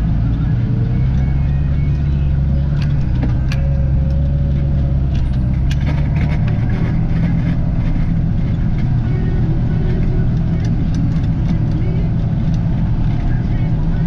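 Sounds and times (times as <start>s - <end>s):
tractor engine running: 0.0s - 14.0s
light clicks and rattles: 1.1s - 14.0s.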